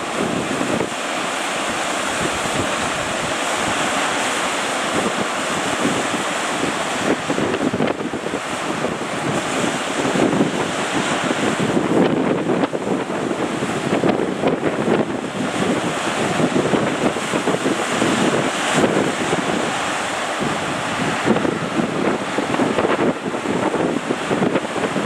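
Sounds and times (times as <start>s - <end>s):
sea surf breaking: 0.0s - 25.0s
wind buffeting microphone: 0.0s - 25.0s.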